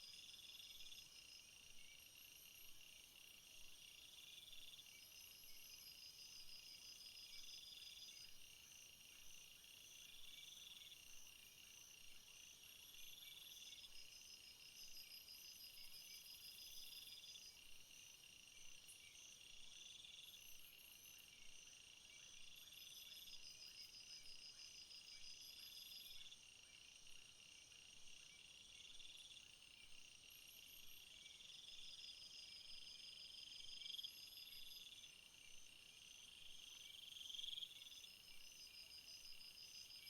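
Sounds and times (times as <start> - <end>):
steady high insect buzz: 0.0 - 40.0.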